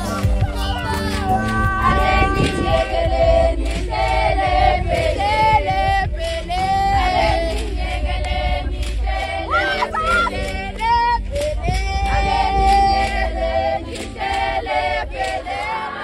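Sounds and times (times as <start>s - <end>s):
steady low rumble: 0.0s - 15.6s
women singing together: 0.0s - 16.0s.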